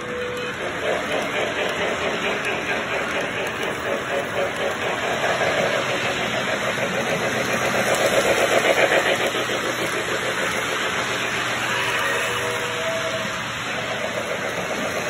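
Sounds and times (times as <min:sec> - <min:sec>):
steam train sound effects: 0:00.0 - 0:15.0
toy train clattering on track: 0:00.0 - 0:15.0.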